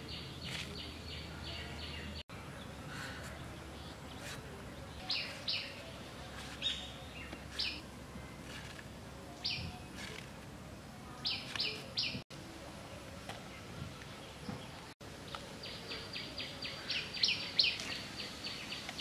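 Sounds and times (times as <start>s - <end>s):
bird chirping: 0.0s - 10.2s, 11.1s - 12.2s, 13.5s - 19.0s.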